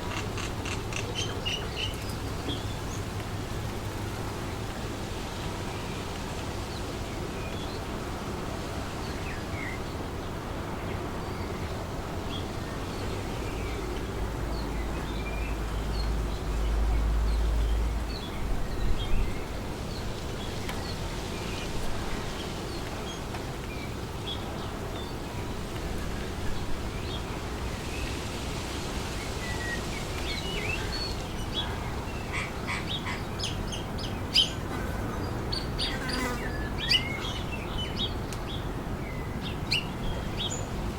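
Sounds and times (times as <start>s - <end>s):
wind through trees: 0.0s - 40.9s.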